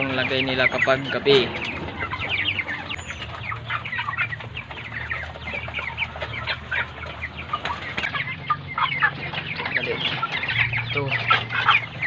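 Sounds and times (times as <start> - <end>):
chickens peeping: 0.0 - 12.0.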